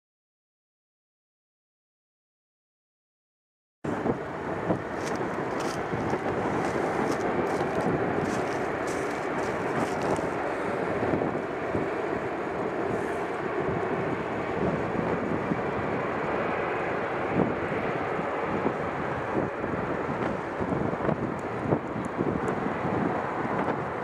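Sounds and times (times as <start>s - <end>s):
jet engines rushing: 3.9s - 24.0s
wind buffeting microphone: 3.9s - 24.0s.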